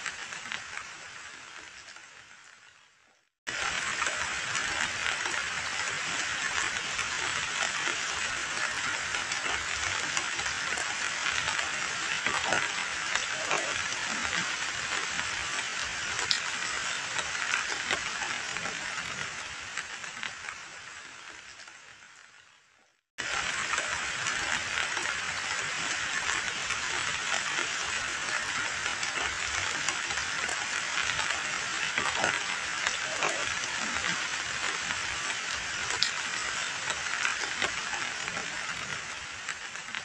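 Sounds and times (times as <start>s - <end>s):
heavy rain on water: 0.0s - 2.7s, 3.5s - 22.4s, 23.2s - 40.0s.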